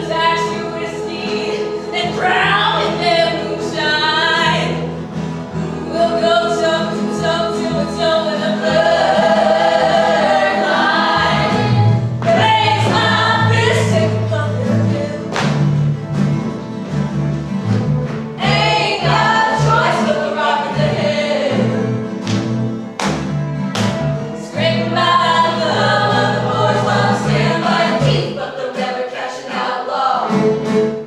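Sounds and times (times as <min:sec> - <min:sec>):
group of voices singing: 0:00.0 - 0:04.8, 0:05.5 - 0:15.5, 0:18.4 - 0:22.1, 0:24.4 - 0:31.0
musical accompaniment with bass: 0:00.0 - 0:31.0.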